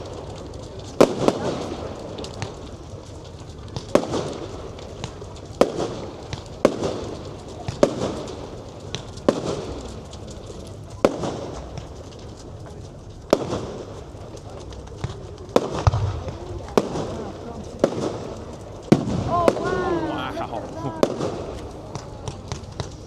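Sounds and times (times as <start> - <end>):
fireworks exploding: 0.0 - 23.0.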